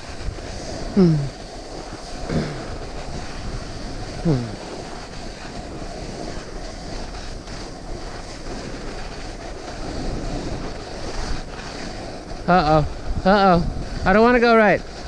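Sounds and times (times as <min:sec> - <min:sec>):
snowboard hissing over snow: 0:00.0 - 0:15.0
wind buffeting microphone: 0:00.0 - 0:15.0.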